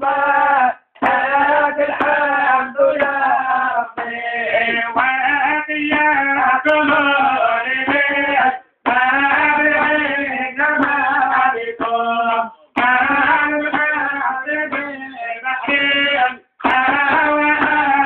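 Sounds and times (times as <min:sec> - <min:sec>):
man singing a chant: 0:00.0 - 0:18.0.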